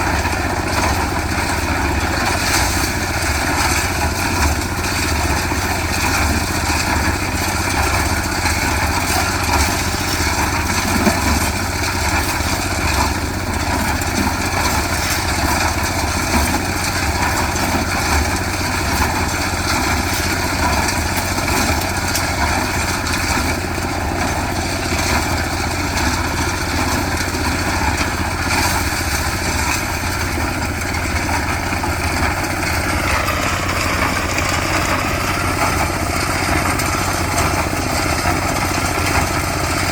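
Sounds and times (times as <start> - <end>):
concrete mixer engine running: 0.0 - 39.9.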